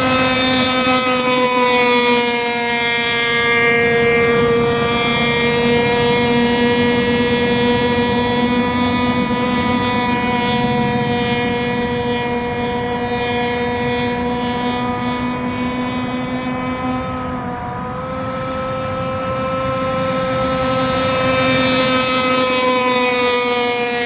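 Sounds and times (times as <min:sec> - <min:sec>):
small boat engine buzzing: 0:00.0 - 0:24.0.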